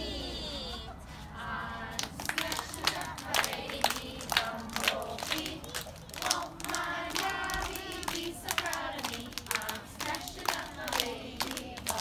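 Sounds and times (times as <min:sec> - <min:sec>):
children and adults singing: 0:00.0 - 0:12.0
people clapping in rhythm: 0:01.8 - 0:12.0.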